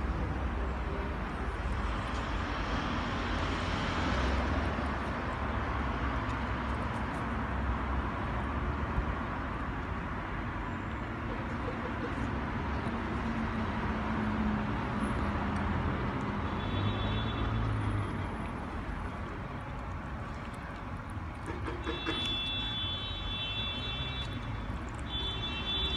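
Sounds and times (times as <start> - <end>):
road traffic hum: 0.0 - 25.9.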